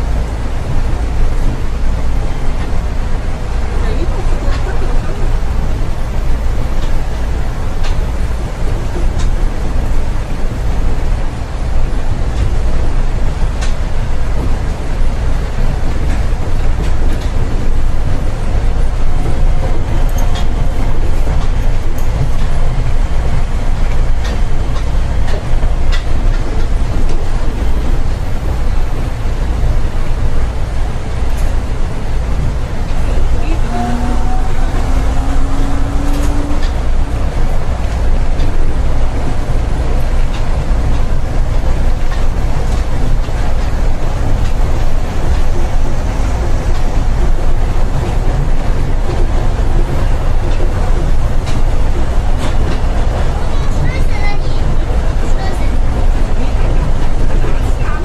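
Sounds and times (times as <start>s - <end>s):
train tyres rumbling on track: 0.0s - 58.0s.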